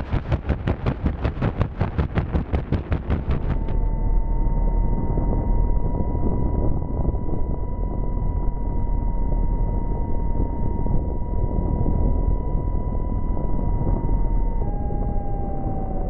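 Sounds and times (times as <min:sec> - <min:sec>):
electric motor and propeller whine: 0:00.0 - 0:16.0.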